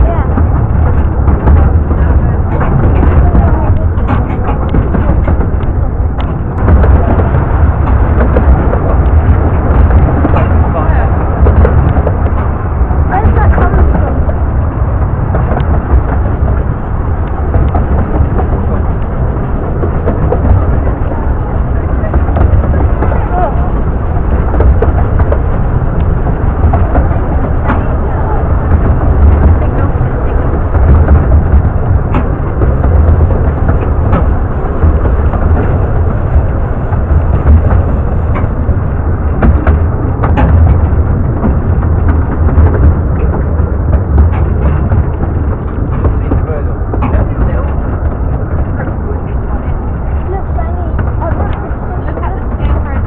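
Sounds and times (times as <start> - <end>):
miniature train rumbling: 0.0 - 53.0
wind buffeting microphone: 0.0 - 53.0.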